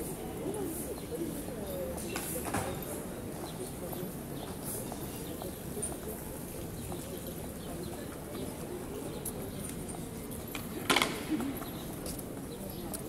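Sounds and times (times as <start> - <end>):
murmur of voices: 0.0 - 13.0.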